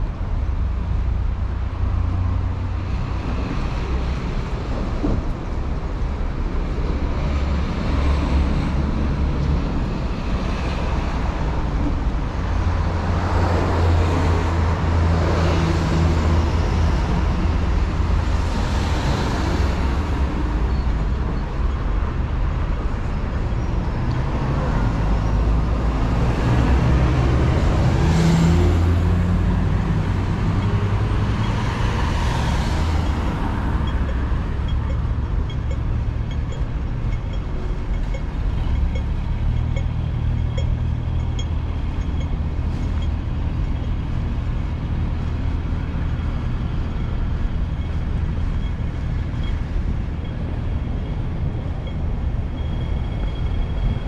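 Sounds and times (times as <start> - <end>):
road traffic rumble: 0.0 - 54.0
vehicles passing: 0.0 - 54.0.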